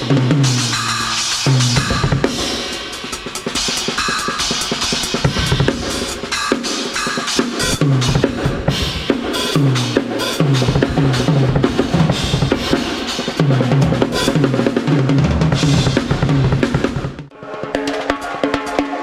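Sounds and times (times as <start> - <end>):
drum kit playing: 0.0 - 19.0.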